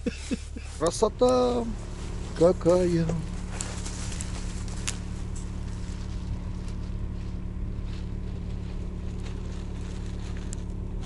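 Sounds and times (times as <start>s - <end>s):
small petrol engine idling: 0.0s - 11.0s.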